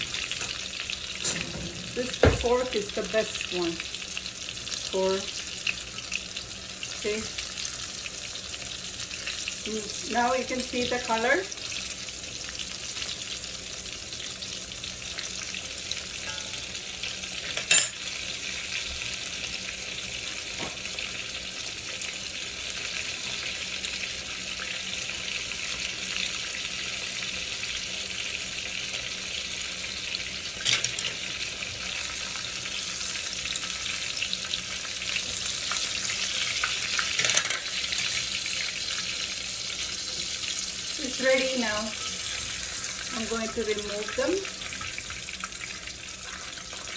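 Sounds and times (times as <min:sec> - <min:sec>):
deep-frying crackling sizzle: 0:00.0 - 0:46.9.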